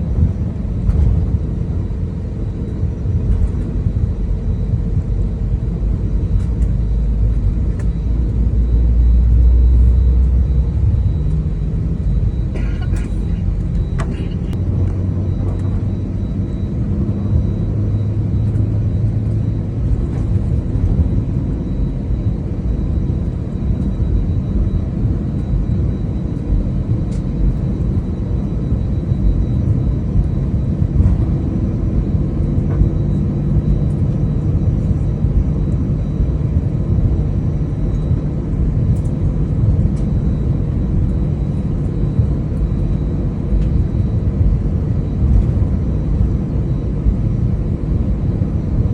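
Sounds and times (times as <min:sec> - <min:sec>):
airplane cabin rumble: 0:00.0 - 0:48.9
faint engine hum: 0:00.0 - 0:48.9.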